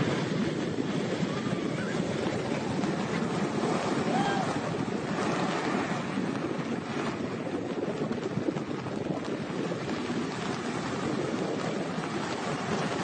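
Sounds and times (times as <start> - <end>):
storm surf crashing: 0.0 - 13.0
wind buffeting microphone: 0.0 - 13.0.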